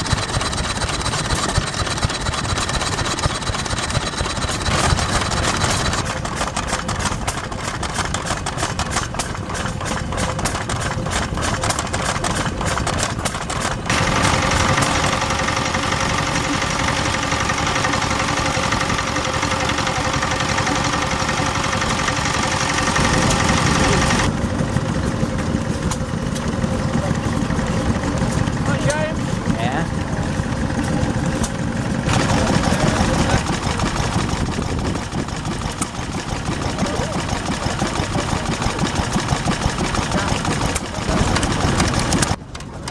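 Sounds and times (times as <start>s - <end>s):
louder engine with steady tone: 0.0s - 42.9s
stationary engines idling: 0.0s - 42.9s.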